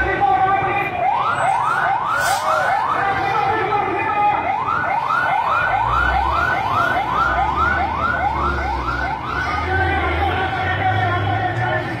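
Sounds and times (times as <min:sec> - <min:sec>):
siren yelping: 0:00.4 - 0:10.9.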